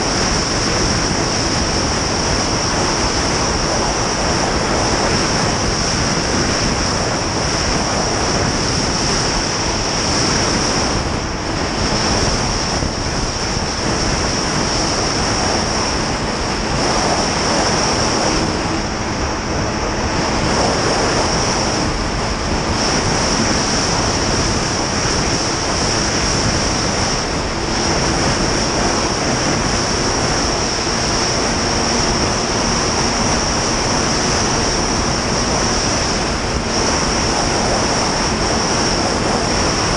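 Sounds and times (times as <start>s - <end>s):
high whine: 0.0s - 39.9s
snowmobile engine and track drone: 0.0s - 39.9s
wind rush on microphone: 0.0s - 39.9s.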